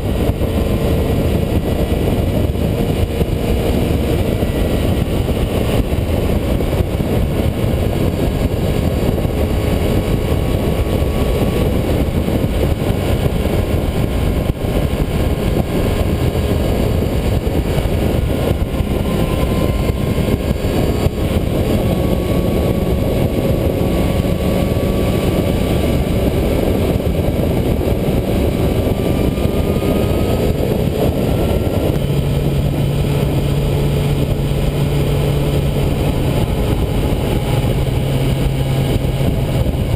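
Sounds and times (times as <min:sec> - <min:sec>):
motorcycle engine: 0:00.0 - 0:39.9
wind rush on microphone: 0:00.0 - 0:39.9.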